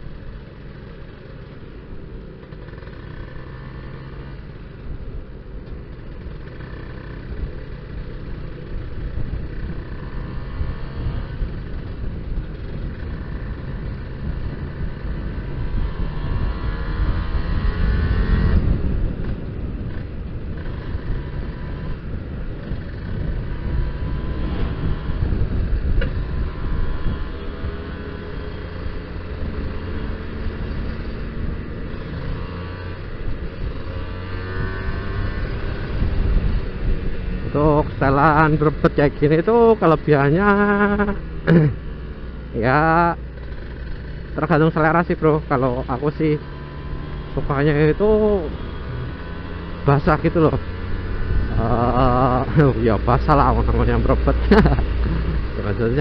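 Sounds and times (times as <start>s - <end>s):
motorcycle engine accelerating: 0.0s - 56.0s
wind rumble on microphone: 8.8s - 41.8s, 42.4s - 56.0s.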